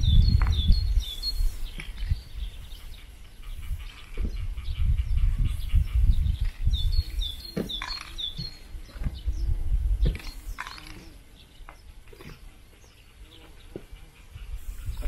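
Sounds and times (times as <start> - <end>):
wind rumble on microphone: 0.0 - 12.4, 13.8 - 15.0
small bird chirping: 0.0 - 15.0.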